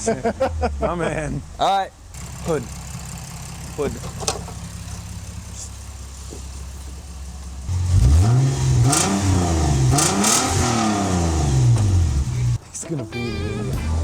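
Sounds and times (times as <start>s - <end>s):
car engine idling and revving: 0.0s - 12.6s.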